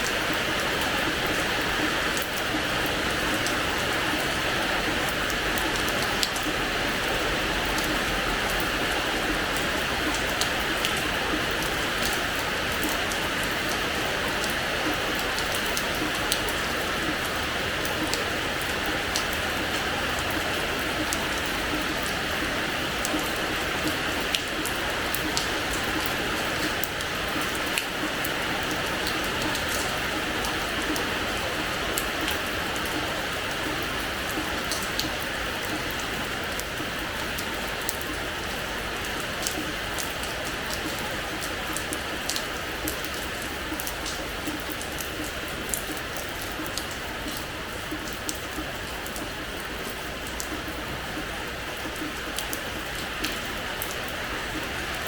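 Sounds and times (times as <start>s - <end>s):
rain on a hard floor: 0.0s - 55.0s.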